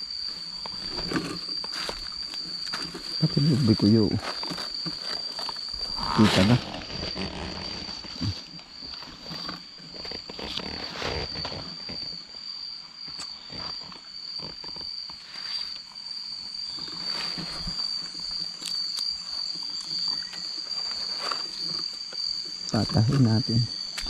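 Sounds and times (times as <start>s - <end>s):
crickets chirping steadily: 0.0s - 24.0s.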